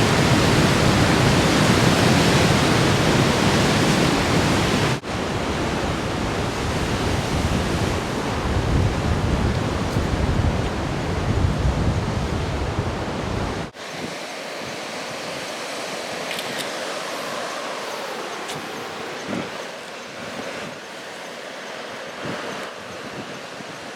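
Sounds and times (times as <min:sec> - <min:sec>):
wind rumbling on microphone: 0:00.0 - 0:14.8, 0:16.1 - 0:23.9
heavy surf on rocky shore: 0:00.0 - 0:23.9.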